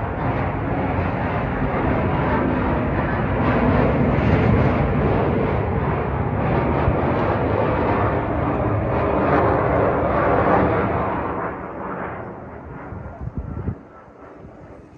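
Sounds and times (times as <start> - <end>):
jet engine roar: 0.0 - 14.9.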